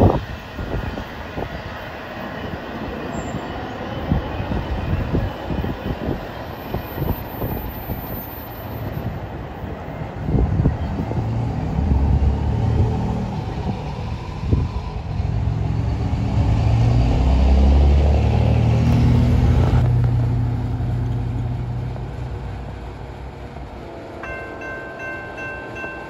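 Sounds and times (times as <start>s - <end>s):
diesel locomotive engines rumbling: 0.0s - 26.0s.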